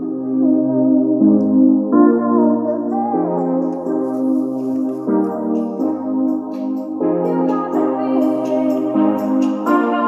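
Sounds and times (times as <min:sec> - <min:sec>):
ambient synthesizer music: 0:00.0 - 0:10.0.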